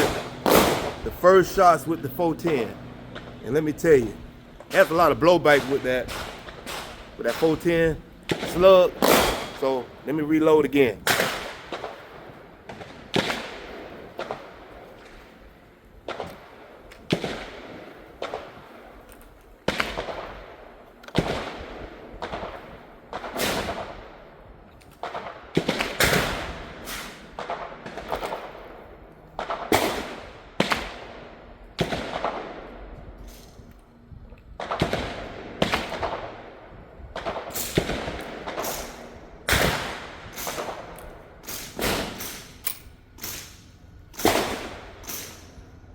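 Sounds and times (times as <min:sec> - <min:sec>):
gunshots with echo: 0:00.0 - 0:19.0, 0:19.7 - 0:33.7, 0:34.4 - 0:45.9.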